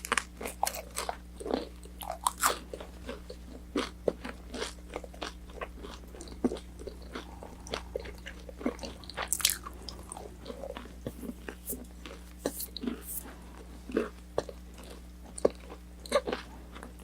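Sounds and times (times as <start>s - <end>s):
chewing crispy fried chicken: 0.0s - 17.0s.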